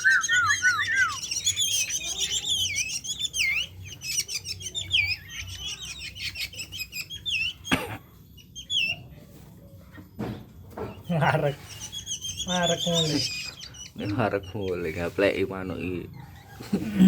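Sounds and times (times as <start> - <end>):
bird chirping: 0.0 - 9.2, 10.7 - 16.8.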